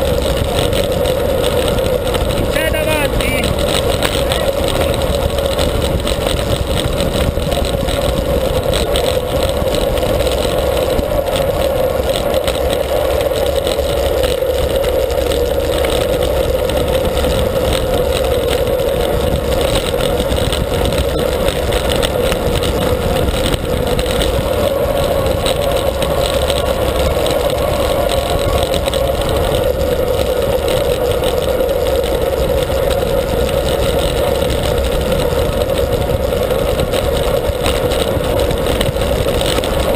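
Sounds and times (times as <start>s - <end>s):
tyre noise on asphalt: 0.0s - 39.9s
wind rushing over microphone: 0.0s - 39.9s.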